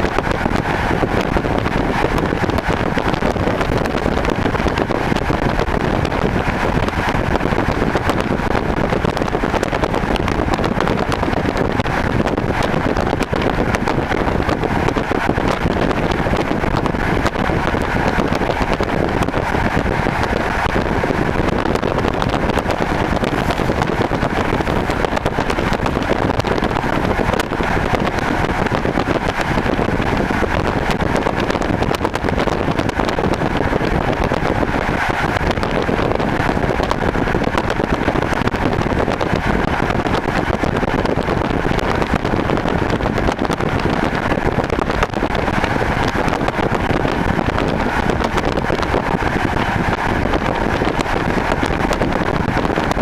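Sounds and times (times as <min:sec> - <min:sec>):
train running noise inside carriage: 0:00.0 - 0:53.0.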